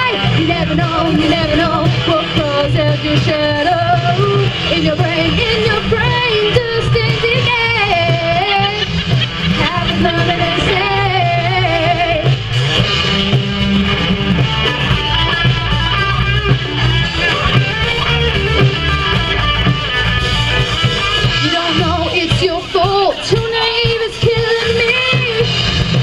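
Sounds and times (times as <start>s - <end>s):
electric guitar: 0.0s - 26.0s
rock band playing: 0.0s - 26.0s.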